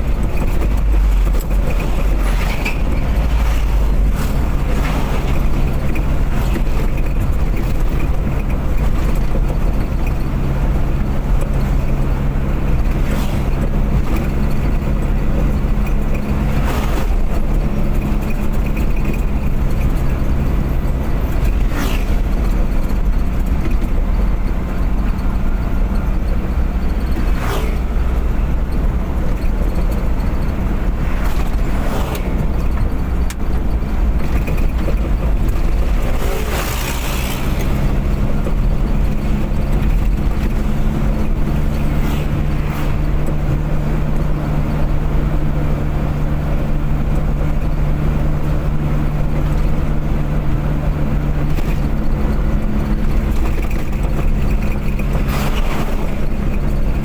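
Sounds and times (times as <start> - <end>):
car engine drone: 0.0 - 57.0
road rumble: 0.0 - 57.0.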